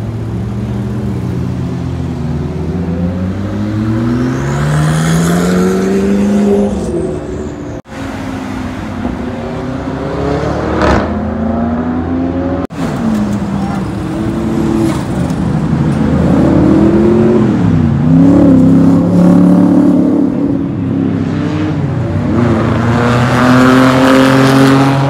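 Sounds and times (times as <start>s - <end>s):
cars accelerating past: 0.3s - 7.4s, 8.0s - 13.4s, 14.0s - 25.0s.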